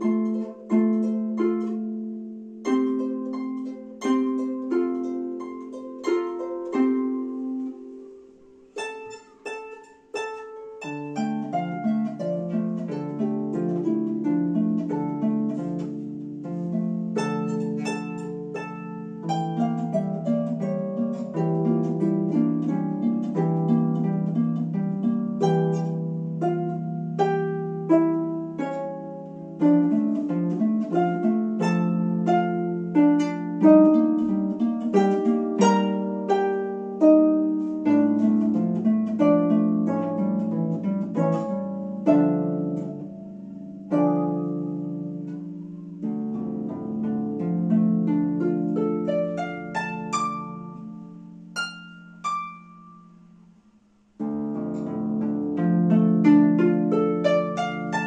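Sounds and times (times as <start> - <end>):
harp playing: 0.0 - 58.0.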